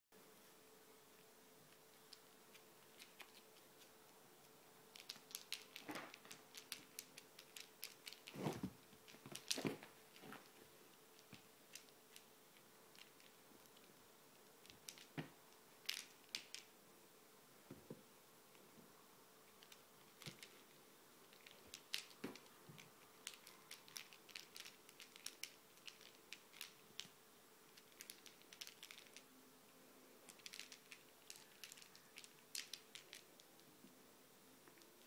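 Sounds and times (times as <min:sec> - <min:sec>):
faint steady hum: 0:00.2 - 0:35.0.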